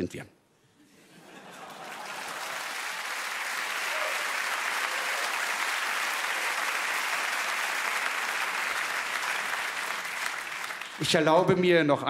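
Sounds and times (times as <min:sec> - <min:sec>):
audience applauding: 0:01.2 - 0:11.5.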